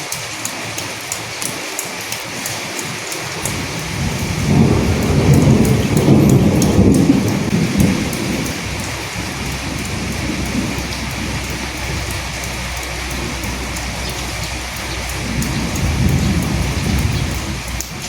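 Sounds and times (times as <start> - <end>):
raindrops ticking close by: 0.0 - 18.0
steady rain: 0.0 - 18.0
low roll of thunder: 3.4 - 18.0.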